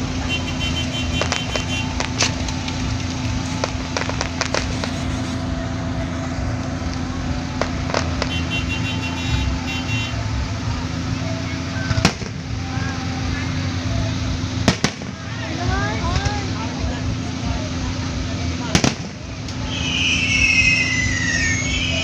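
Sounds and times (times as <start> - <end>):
fireworks popping and crackling: 0.0 - 22.0
low rumble and hum: 0.0 - 22.0.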